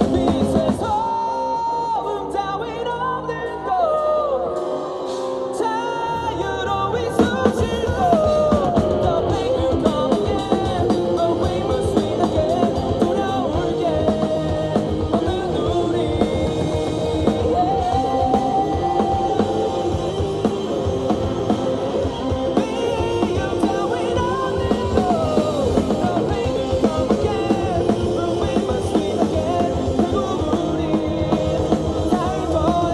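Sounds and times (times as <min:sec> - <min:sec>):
live rock band playing: 0:00.0 - 0:32.9
person singing: 0:00.0 - 0:32.9.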